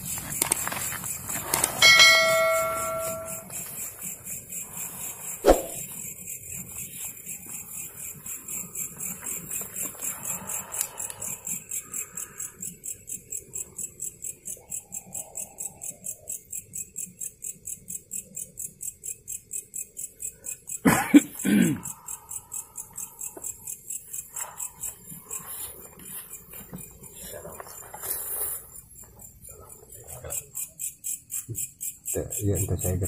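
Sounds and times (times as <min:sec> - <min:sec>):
night insects chirping: 0:00.0 - 0:33.0.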